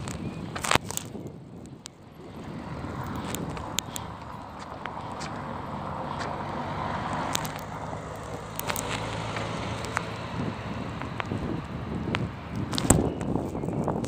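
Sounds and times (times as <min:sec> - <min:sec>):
tyre noise: 0:00.0 - 0:14.0
van engine hum: 0:00.0 - 0:14.0.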